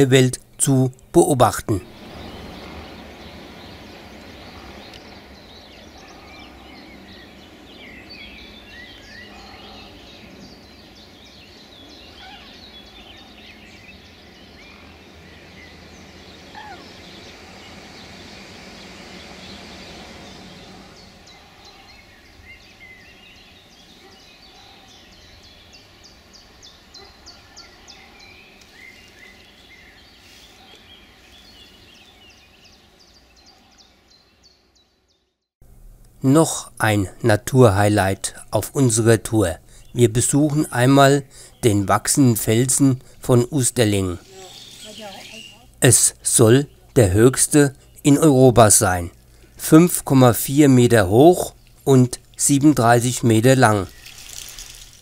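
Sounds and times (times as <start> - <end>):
low background noise: 0.0 - 34.8, 35.6 - 55.0
small birds chirping: 0.0 - 55.0.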